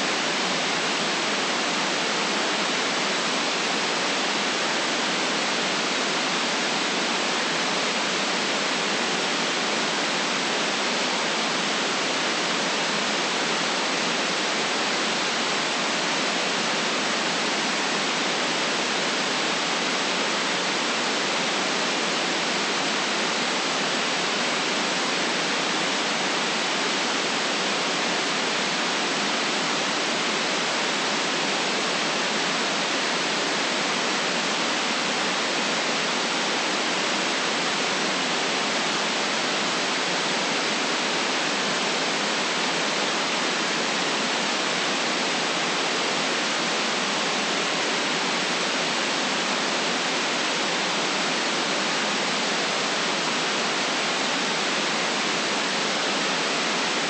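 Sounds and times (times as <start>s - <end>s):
white noise: 0.0s - 57.0s.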